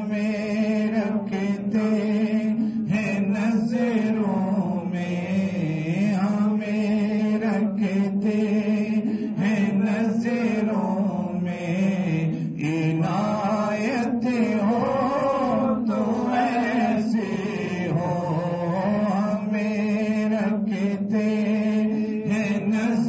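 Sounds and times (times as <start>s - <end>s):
man singing a hymn: 0.0s - 23.0s.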